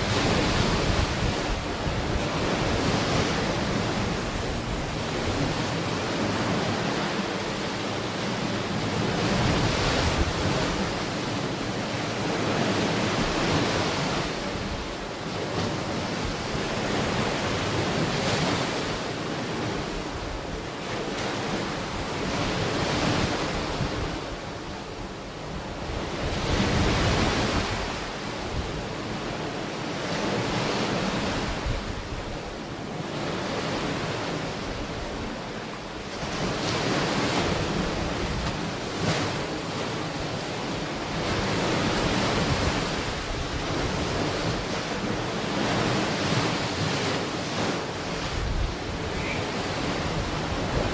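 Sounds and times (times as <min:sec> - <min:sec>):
ocean waves breaking on shore: 0:00.0 - 0:50.9.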